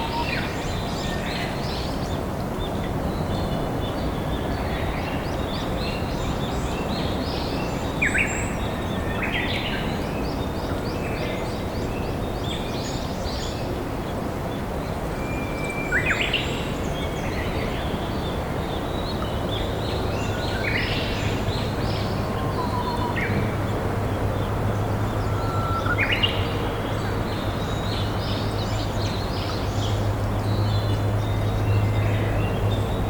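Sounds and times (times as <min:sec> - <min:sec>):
bush warbler singing: 0:00.0 - 0:33.0.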